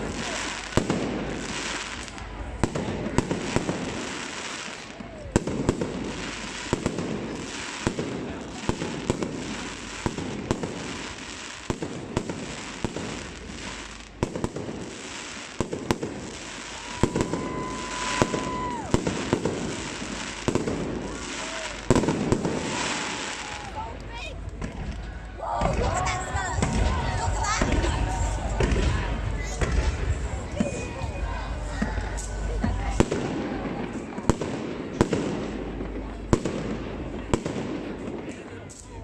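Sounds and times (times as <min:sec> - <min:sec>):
crowd chatter: 0:00.0 - 0:39.0
fireworks bangs and crackles: 0:00.0 - 0:39.0.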